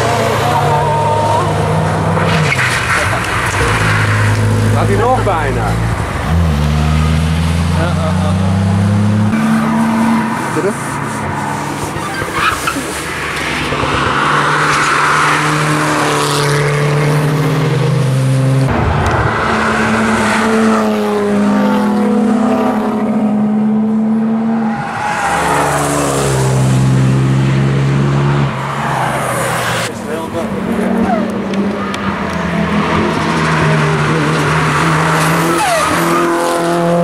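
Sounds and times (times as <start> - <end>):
race cars driving past: 0.0 - 37.0.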